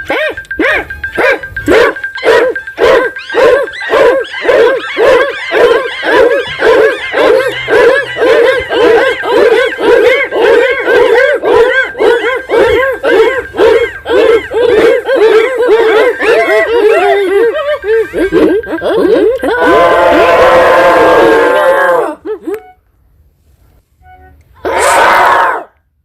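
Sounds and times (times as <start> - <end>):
faint steady high tone: 0.0 - 20.2, 24.0 - 24.6
animal calling: 0.0 - 22.8.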